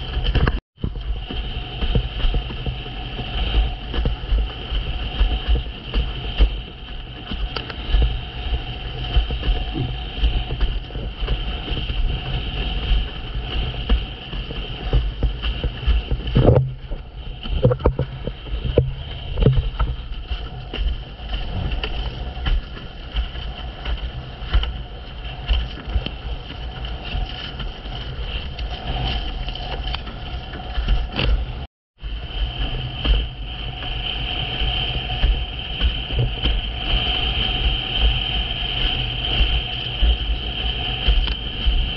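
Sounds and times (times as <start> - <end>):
hull slapping on water: 0.0 - 41.9
steady high whine: 0.0 - 41.9
wind buffeting: 0.0 - 41.9.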